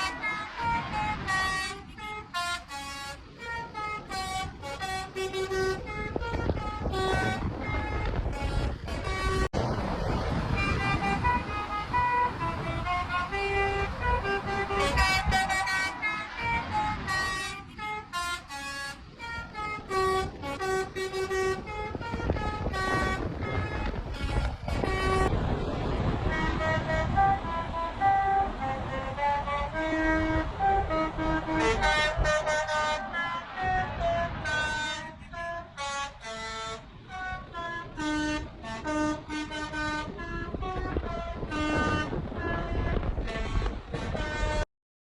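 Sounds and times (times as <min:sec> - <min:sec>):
musical horn playing a tune: 0:00.0 - 0:09.5, 0:10.4 - 0:25.4, 0:26.0 - 0:44.6
road and wind rumble: 0:00.0 - 0:44.7.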